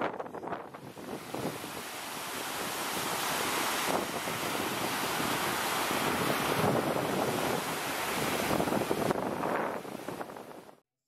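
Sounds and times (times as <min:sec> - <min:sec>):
waves washing on shingle: 0:00.0 - 0:10.8.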